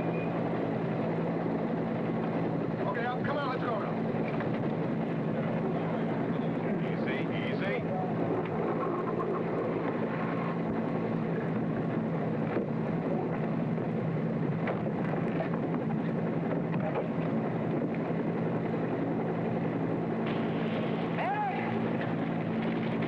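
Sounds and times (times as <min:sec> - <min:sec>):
helicopter drone: 0:00.0 - 0:23.0.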